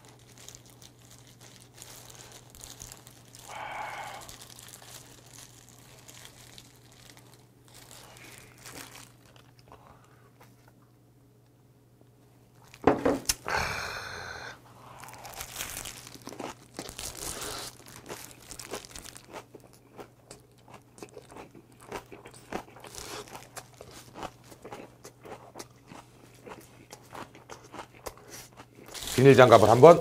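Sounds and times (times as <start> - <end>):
person chewing crunchy cabbage: 0.0 - 10.8, 14.8 - 30.0.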